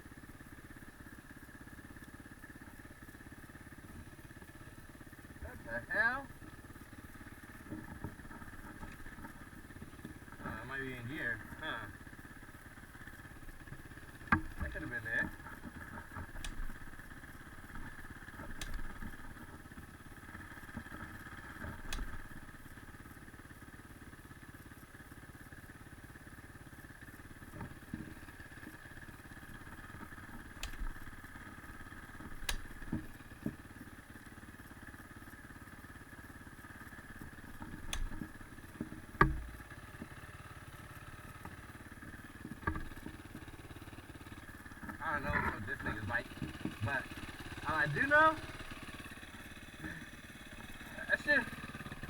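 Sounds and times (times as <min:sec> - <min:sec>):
distant dirt bike engine idling: 0:00.0 - 0:52.0.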